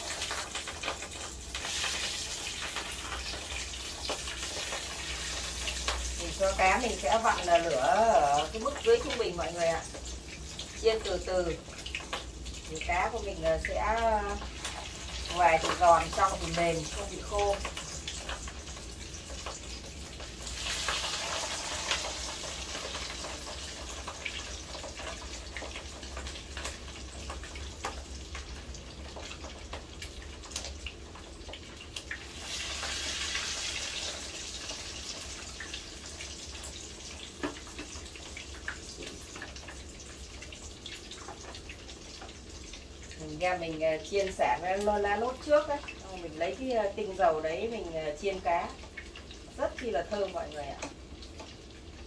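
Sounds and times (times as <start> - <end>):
fish frying in hot oil: 0.0 - 52.0.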